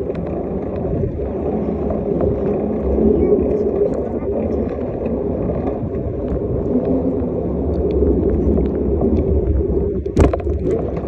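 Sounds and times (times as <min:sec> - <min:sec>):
bicycle tyres rolling: 0:00.0 - 0:11.0
wind on microphone: 0:00.0 - 0:11.0.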